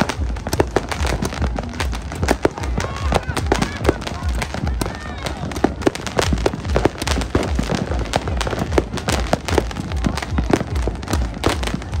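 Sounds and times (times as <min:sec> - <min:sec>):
deep booming firework thumps: 0:00.0 - 0:12.0
fireworks cracks and bangs: 0:00.0 - 0:12.0.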